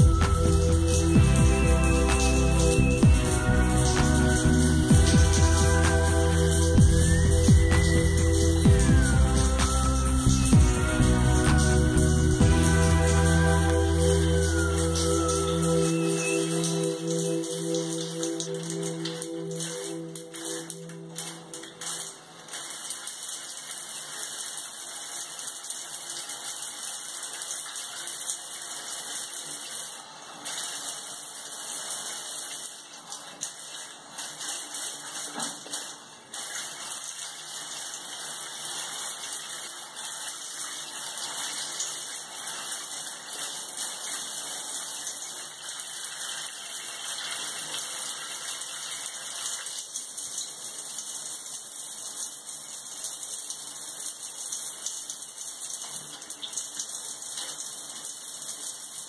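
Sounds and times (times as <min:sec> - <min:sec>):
shower water hissing on tiles: 0:00.0 - 0:59.0.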